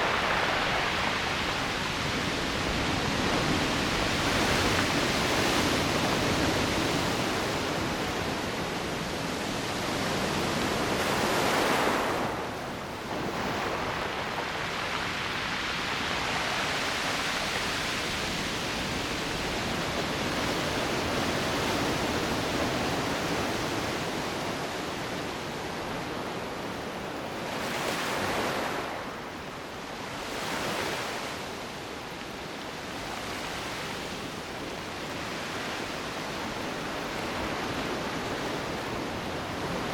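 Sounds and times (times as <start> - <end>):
ocean surf washing on shore: 0.0 - 39.9.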